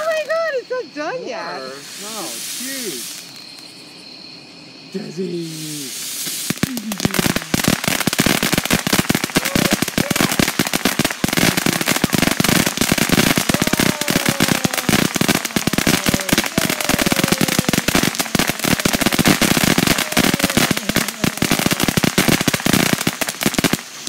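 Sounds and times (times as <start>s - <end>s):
firework fountain crackling: 0.0s - 3.7s, 5.0s - 24.0s.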